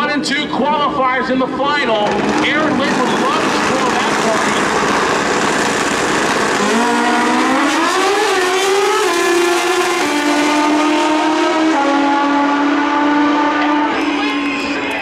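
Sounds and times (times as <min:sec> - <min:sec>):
motorcycle engines racing: 0:00.0 - 0:15.0.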